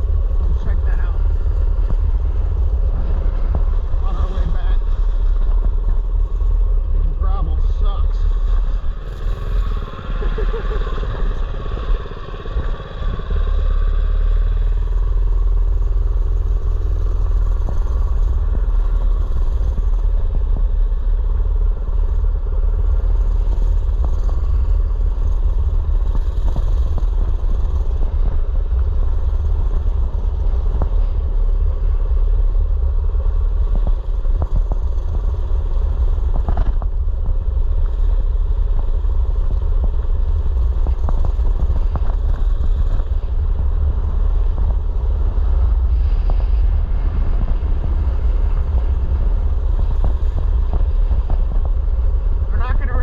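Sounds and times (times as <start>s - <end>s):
low rumble on microphone: 0.0s - 53.0s
small engine running: 0.0s - 53.0s.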